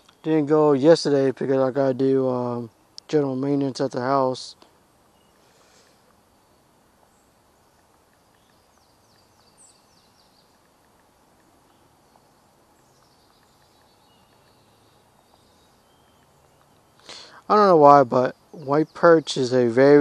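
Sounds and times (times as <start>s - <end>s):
distant bird calls: 0.0s - 20.0s.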